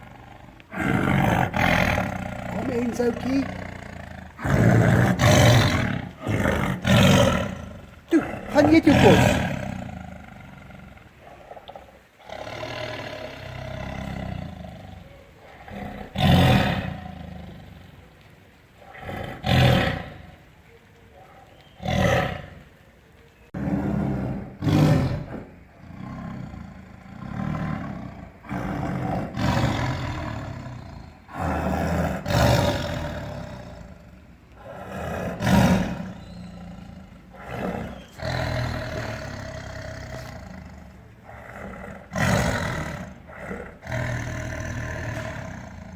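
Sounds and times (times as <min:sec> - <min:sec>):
low rumbling growls: 0:00.0 - 0:20.8, 0:21.6 - 0:45.9
tiger roaring: 0:00.0 - 0:22.8, 0:23.6 - 0:45.9.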